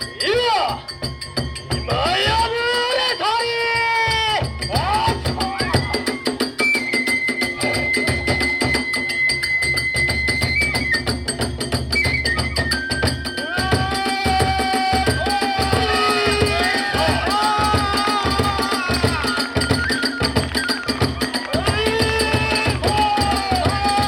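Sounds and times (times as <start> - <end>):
fast drumming: 0.0 - 24.0
hand cymbals clashing: 0.0 - 24.0
flute holding notes: 4.0 - 24.0.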